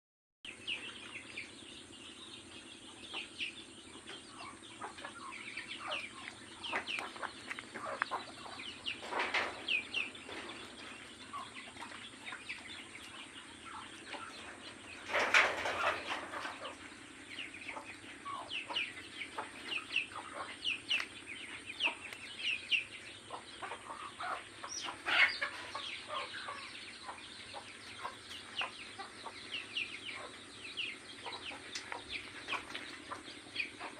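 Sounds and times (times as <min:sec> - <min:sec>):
chickens clucking: 0:00.5 - 0:33.9.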